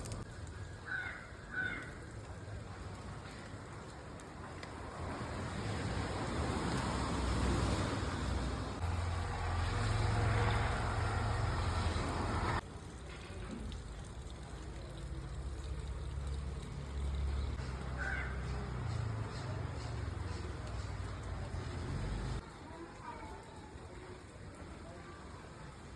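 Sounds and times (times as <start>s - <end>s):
rain falling: 0.0s - 25.9s.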